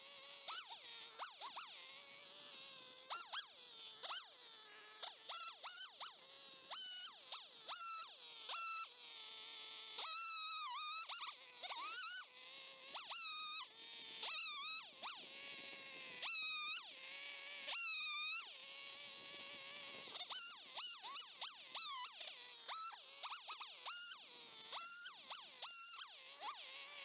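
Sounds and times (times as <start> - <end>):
chainsaw revving and cutting: 0.0 - 27.0.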